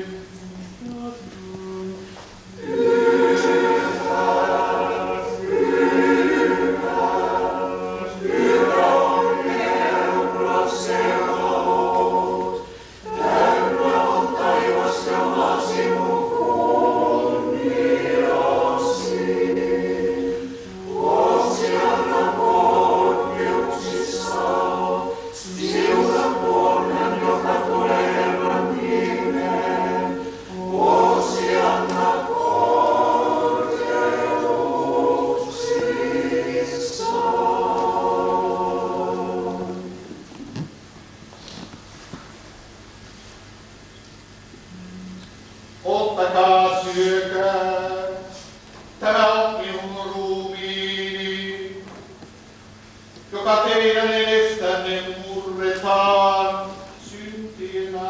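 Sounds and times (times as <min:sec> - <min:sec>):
choir singing liturgical chant: 0:00.0 - 0:40.5, 0:45.8 - 0:52.0, 0:53.3 - 0:58.0
steady low hum: 0:00.0 - 0:58.0.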